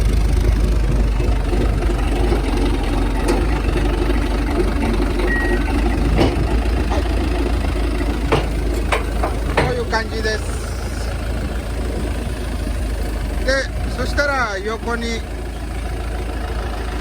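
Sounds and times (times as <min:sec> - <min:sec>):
diesel forklift engine running: 0:00.0 - 0:17.0.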